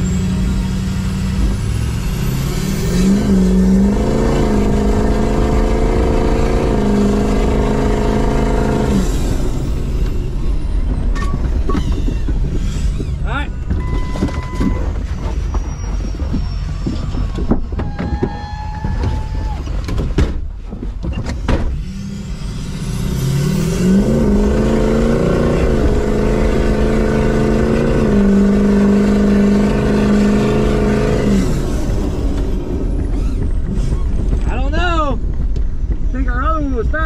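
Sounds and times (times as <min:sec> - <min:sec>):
truck engine revving: 0:00.0 - 0:20.1, 0:21.6 - 0:37.0
outdoor noise: 0:00.0 - 0:37.0.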